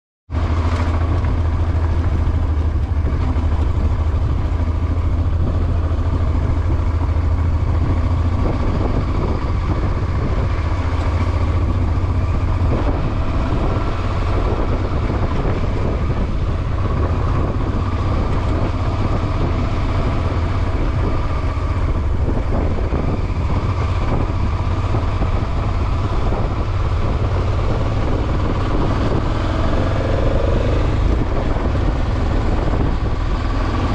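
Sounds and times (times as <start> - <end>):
motor vehicle running: 0.3 - 33.9.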